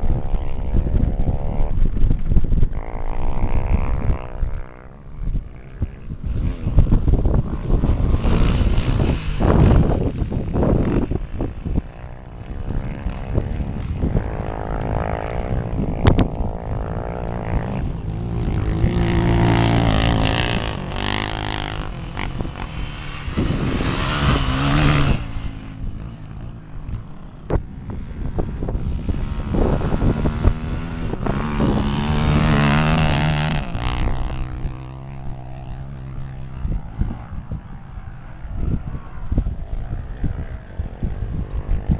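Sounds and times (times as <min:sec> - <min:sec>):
racing motorcycles passing by: 0:00.0 - 0:41.9.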